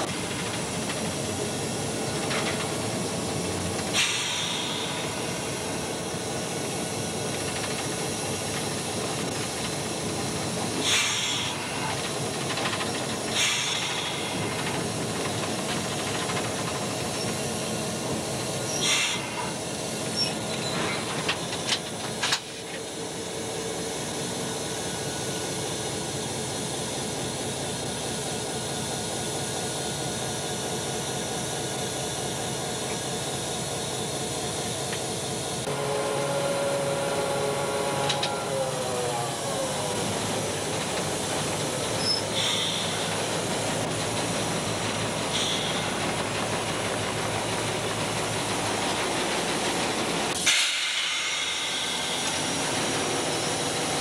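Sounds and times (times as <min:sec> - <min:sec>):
diesel locomotive running: 0:00.0 - 0:54.0.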